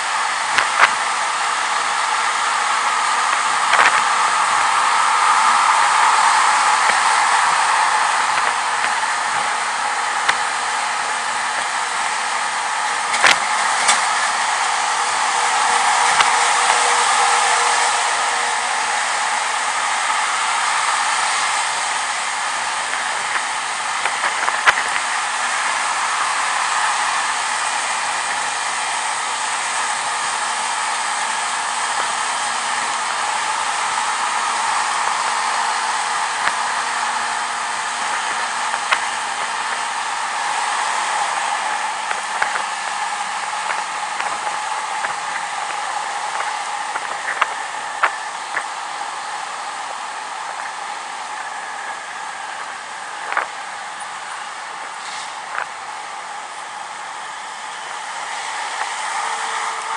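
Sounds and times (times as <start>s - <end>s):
faint engine hum: 0.0s - 59.9s
road noise: 0.0s - 59.9s
rushing wind: 0.0s - 59.9s.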